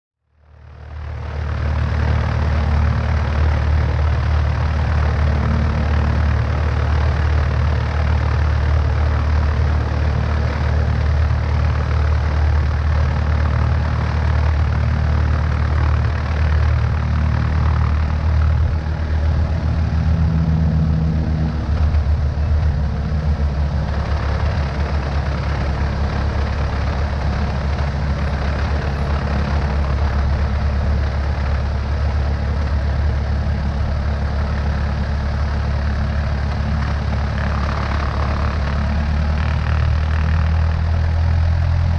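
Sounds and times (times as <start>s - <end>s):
propeller plane engine running: 0.3s - 41.9s.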